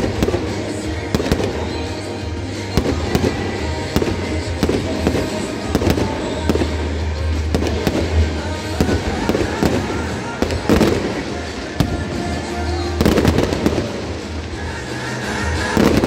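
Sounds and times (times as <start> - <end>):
background music: 0.0 - 16.0
fireworks bangs and crackles: 0.0 - 16.0.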